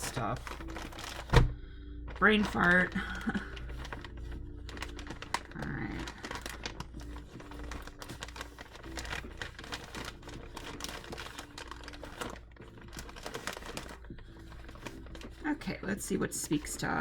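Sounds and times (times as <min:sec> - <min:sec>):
papers and craft pieces handled: 0:00.0 - 0:17.0.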